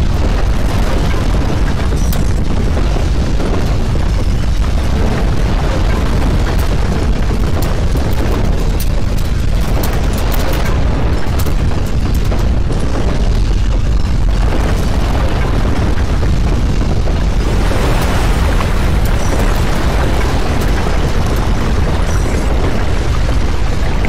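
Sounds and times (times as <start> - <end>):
crackles and rattles: 0.0 - 24.0
earthquake deep rumble: 0.0 - 24.0.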